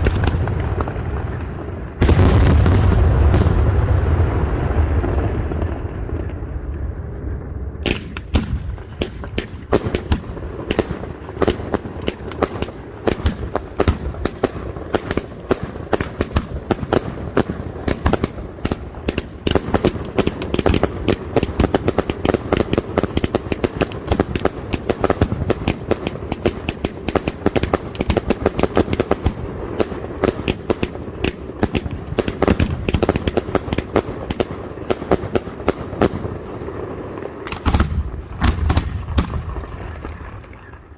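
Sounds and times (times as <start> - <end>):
rapid crackle of small bangs: 0.0 - 6.7, 7.8 - 40.9
low rumble of firework bursts: 0.0 - 40.9.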